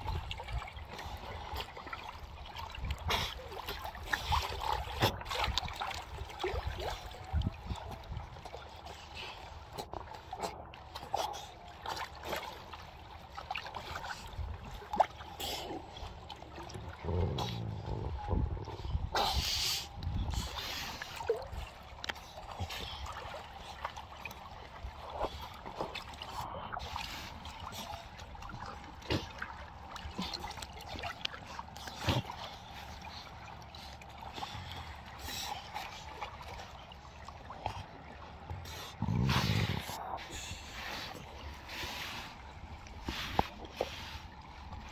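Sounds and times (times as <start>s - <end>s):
water splashing and lapping: 0.0s - 44.9s.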